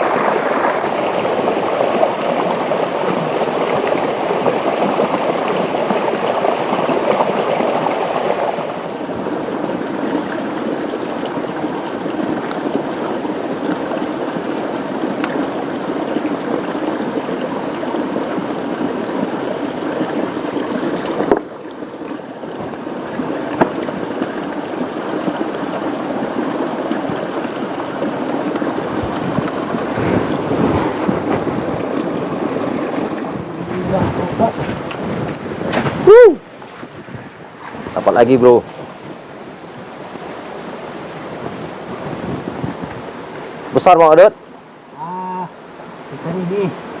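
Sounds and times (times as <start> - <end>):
fast river rushing: 0.0 - 47.0
rain: 0.0 - 47.0.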